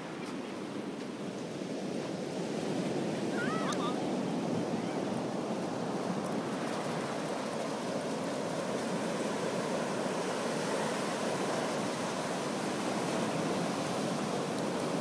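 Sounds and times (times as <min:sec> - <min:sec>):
ocean surf washing: 0:00.0 - 0:15.0.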